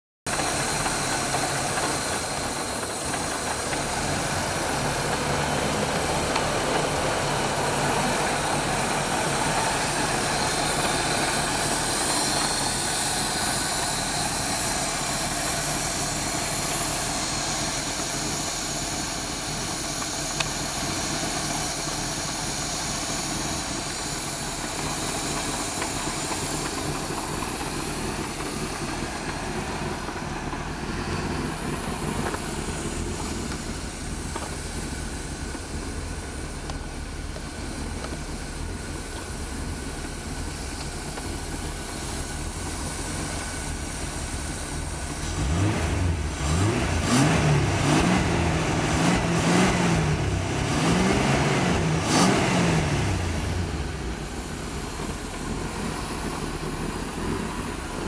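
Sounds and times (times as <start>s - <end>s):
car engine idling: 0.2s - 58.0s.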